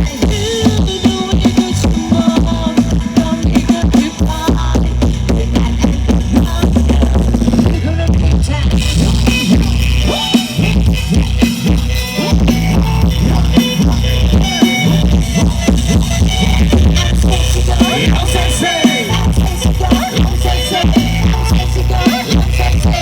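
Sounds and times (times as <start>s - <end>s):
loud music with pounding bass: 0.0s - 23.0s.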